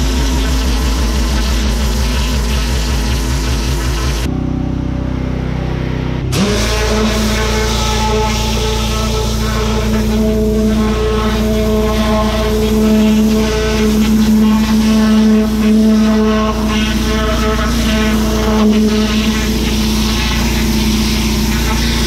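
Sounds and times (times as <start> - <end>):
water jet hissing on paving: 0.0 - 4.3, 6.5 - 22.0
pressure washer humming: 0.0 - 4.9, 6.2 - 22.0.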